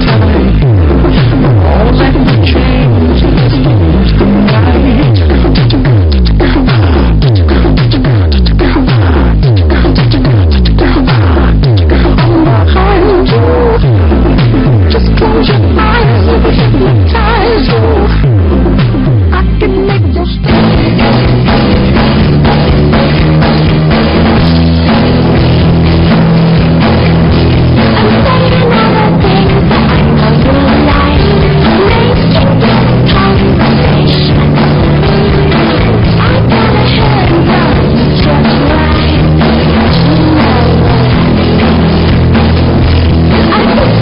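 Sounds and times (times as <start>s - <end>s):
drum kit beat: 0.0s - 44.0s
guitars: 0.0s - 44.0s
heavy bass: 0.0s - 44.0s
loud rock music: 0.0s - 44.0s.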